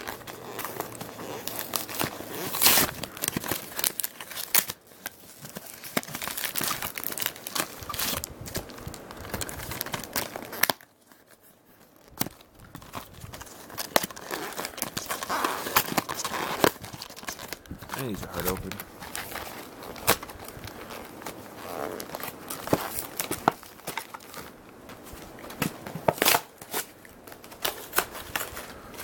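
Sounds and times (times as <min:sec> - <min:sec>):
plastic packaging crinkling and tearing: 0:00.0 - 0:29.0.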